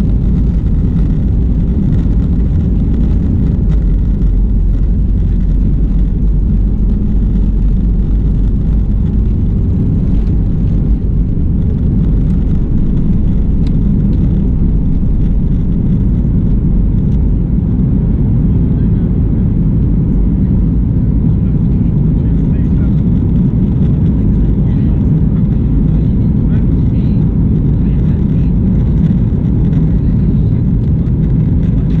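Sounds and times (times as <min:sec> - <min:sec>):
jet engines rumbling: 0:00.0 - 0:32.0
wheels running on runway: 0:00.0 - 0:32.0.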